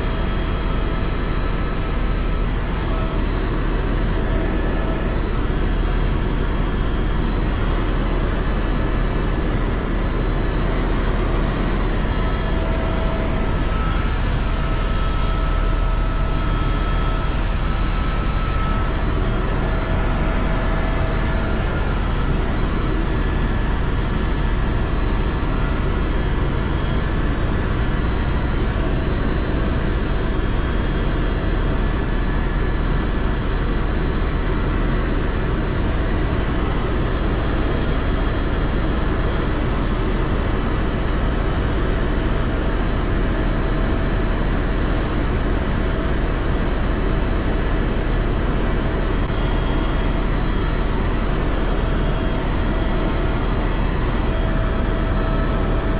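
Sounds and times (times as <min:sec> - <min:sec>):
helicopter engine and rotor drone: 0:00.0 - 0:55.9.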